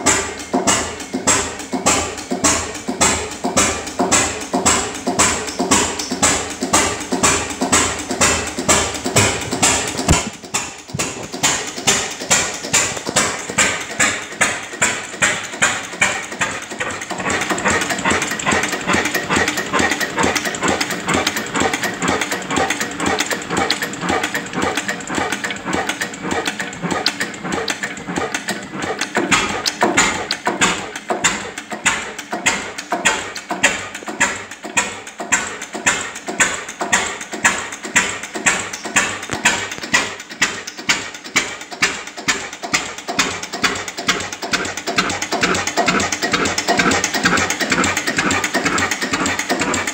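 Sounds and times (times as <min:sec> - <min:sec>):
oil engine running with regular beat: 0:00.0 - 0:49.9.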